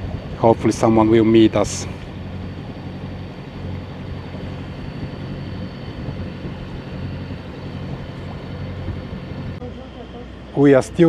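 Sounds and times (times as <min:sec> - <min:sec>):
boat diesel engine humming: 0:00.0 - 0:10.1.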